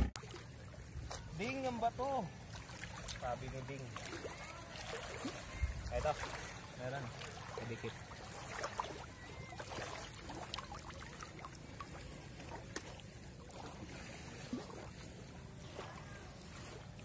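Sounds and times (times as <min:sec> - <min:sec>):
water trickling and lapping: 0:00.0 - 0:17.0.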